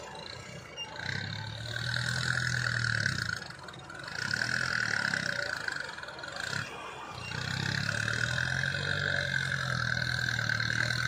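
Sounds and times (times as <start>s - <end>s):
excavator diesel engine under load: 0.0s - 11.0s.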